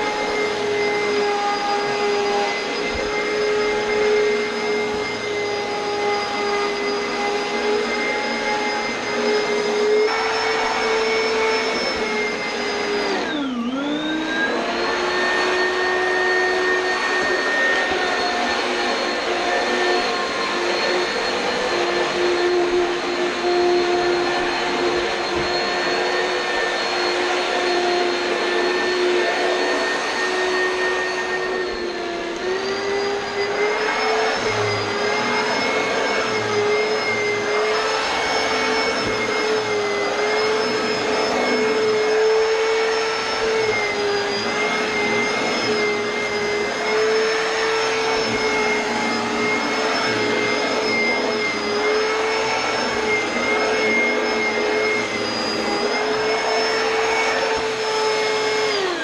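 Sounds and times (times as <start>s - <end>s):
upright vacuum cleaner whine: 0.0s - 59.0s.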